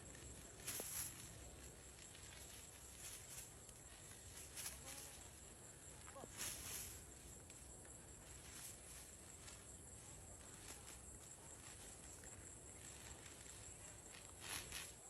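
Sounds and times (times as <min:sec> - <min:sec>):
faint rustles: 0:00.0 - 0:15.0
steady high hiss: 0:00.0 - 0:15.0.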